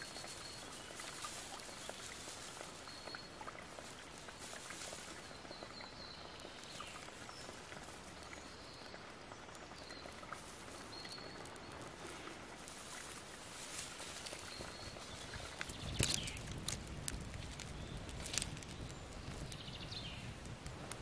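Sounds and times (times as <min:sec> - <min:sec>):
tinder rustling and crackling: 0:00.0 - 0:21.0.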